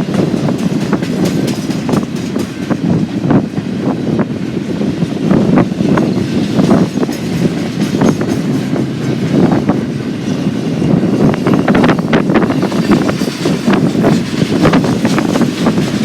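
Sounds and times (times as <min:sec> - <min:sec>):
wheels clicking over rail joints: 0:00.0 - 0:03.3, 0:06.0 - 0:16.0
freight train cars rumbling past: 0:00.0 - 0:16.0
wind buffeting microphone: 0:00.0 - 0:16.0.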